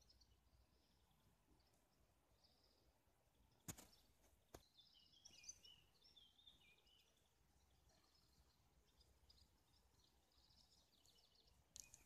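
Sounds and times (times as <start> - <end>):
faint birdsong chirping: 0.0 - 12.0.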